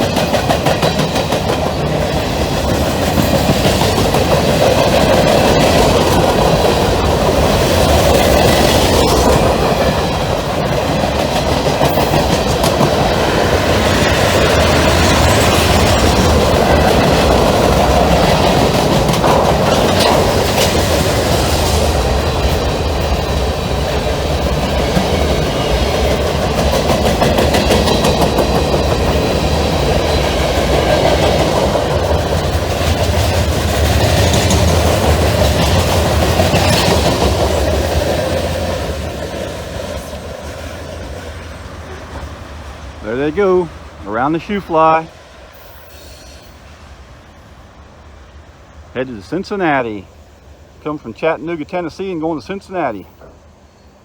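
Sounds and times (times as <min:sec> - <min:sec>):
freight train wheels clacking: 0:00.0 - 0:47.2.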